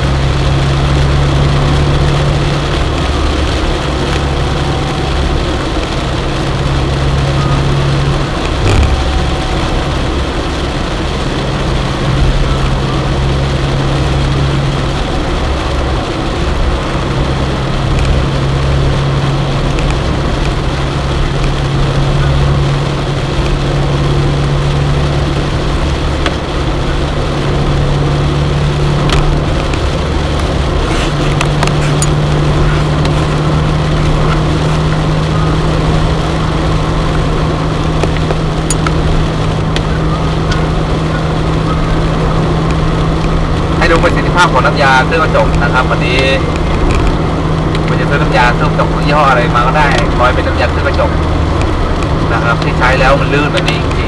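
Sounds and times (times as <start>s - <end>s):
car engine drone: 0.0s - 54.0s
road noise hiss: 0.0s - 54.0s.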